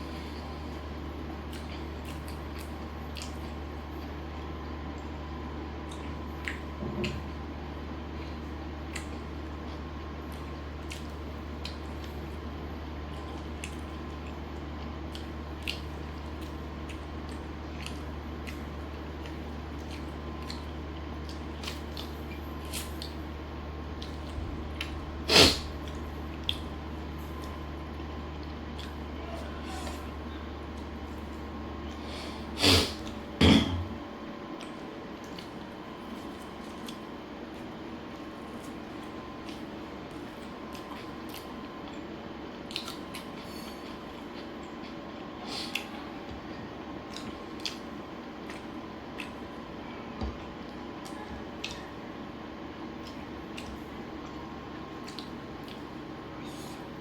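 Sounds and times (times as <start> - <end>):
person chewing: 0.0 - 5.2, 5.8 - 7.4, 8.1 - 12.1, 13.0 - 23.3, 23.9 - 34.0, 34.6 - 42.0, 42.6 - 49.7, 50.4 - 51.9, 52.9 - 57.0
steady low hum: 0.0 - 57.0.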